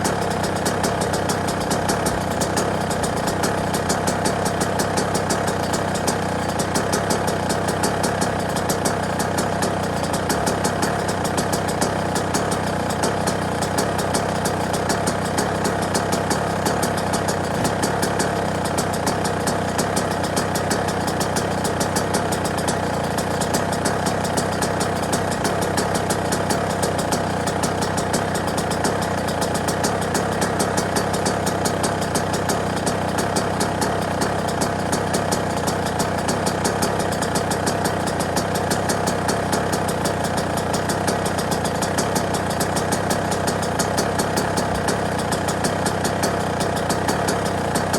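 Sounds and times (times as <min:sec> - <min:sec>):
dirt bike engine idling: 0:00.0 - 0:47.9.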